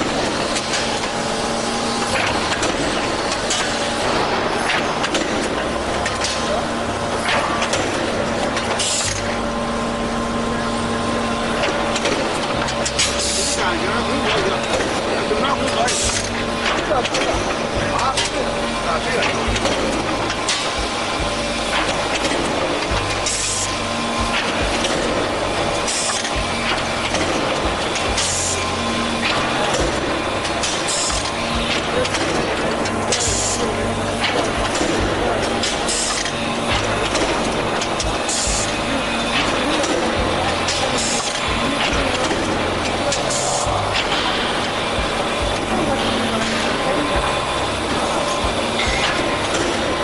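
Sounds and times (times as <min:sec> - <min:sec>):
machinery humming: 0:00.0 - 0:50.0.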